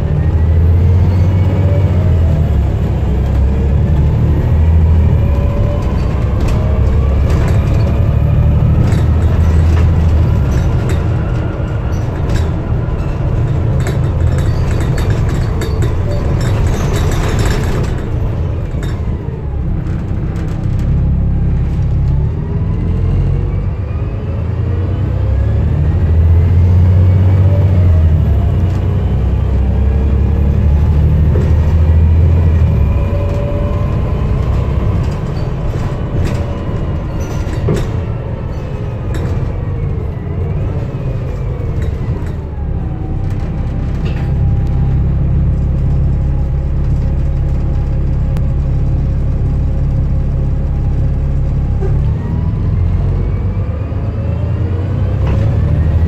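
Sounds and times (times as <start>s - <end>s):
bus engine rumbling and whining: 0.0s - 56.0s.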